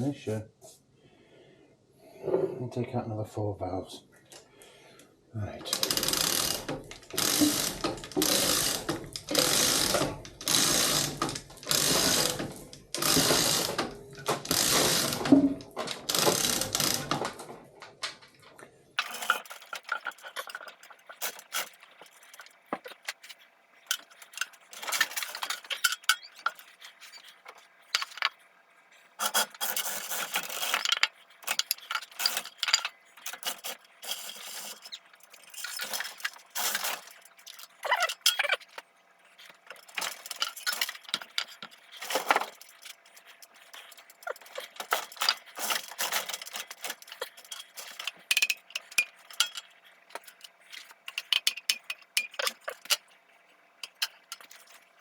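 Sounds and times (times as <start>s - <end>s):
small metal parts clinking and scraping: 5.6s - 15.4s, 19.0s - 53.2s, 53.8s - 55.0s.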